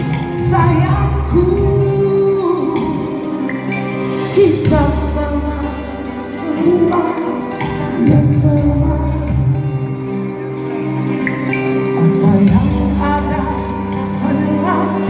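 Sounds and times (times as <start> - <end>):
live band playing slow ballad: 0.0 - 15.0.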